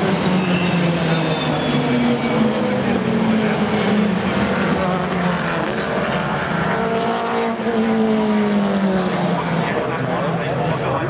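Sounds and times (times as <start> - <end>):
racing cars passing: 0.0 - 11.0.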